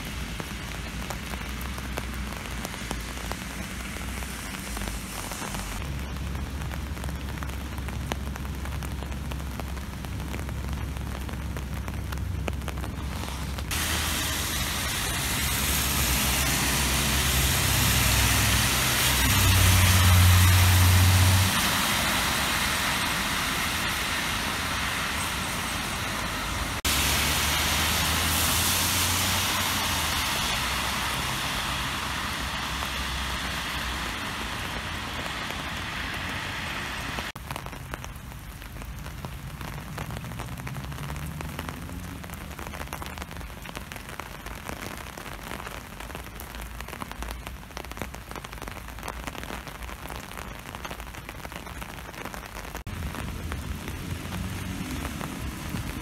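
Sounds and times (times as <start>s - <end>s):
cars driving on wet road: 0.0s - 56.0s
rain hissing: 0.0s - 56.0s.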